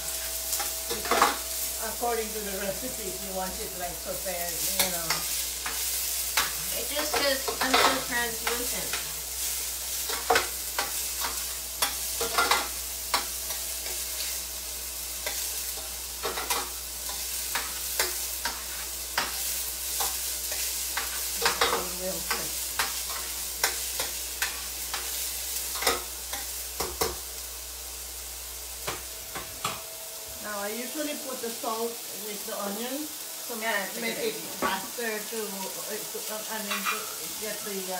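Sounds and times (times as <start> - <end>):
onions sizzling in a pan: 0.0 - 37.9.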